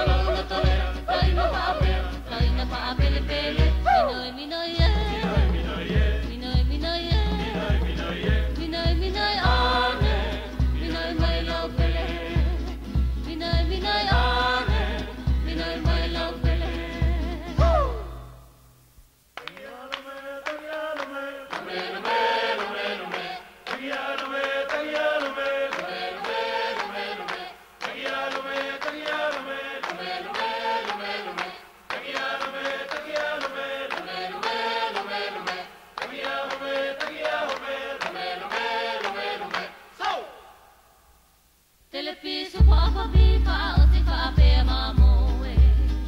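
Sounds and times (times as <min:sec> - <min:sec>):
voices chanting together: 0:00.0 - 0:06.4, 0:07.1 - 0:12.8, 0:13.8 - 0:18.2, 0:19.4 - 0:41.0.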